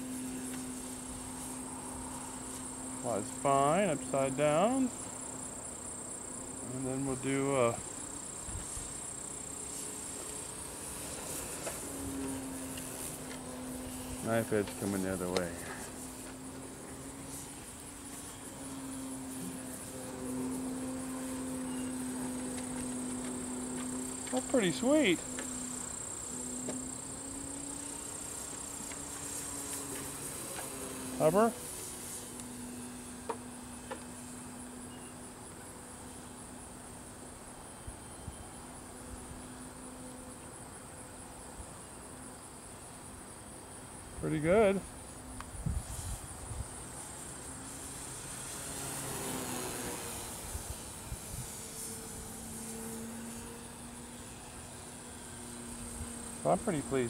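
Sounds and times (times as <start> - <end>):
model plane propeller buzzing: 0.0 - 57.0.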